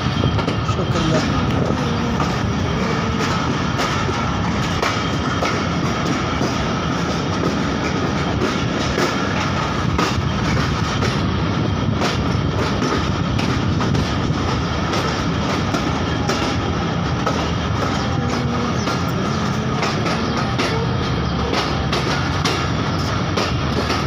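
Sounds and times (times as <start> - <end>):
train rumbling: 0.0 - 24.0
wheels clicking over rail joints: 0.0 - 24.0.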